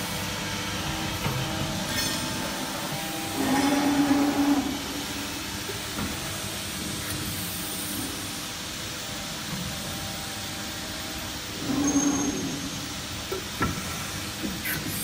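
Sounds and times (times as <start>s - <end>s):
machine whine: 0.0s - 15.0s.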